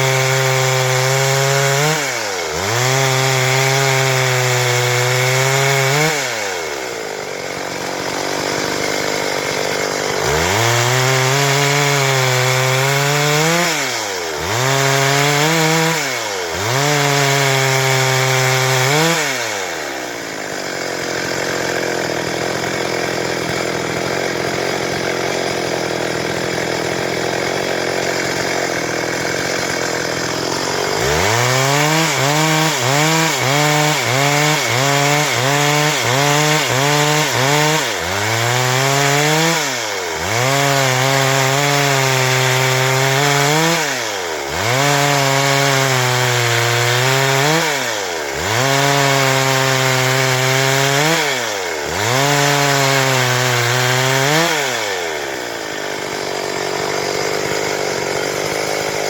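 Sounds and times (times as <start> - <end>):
chainsaw running at high revs: 0.0 - 59.0
steady rough rasp: 0.0 - 59.0.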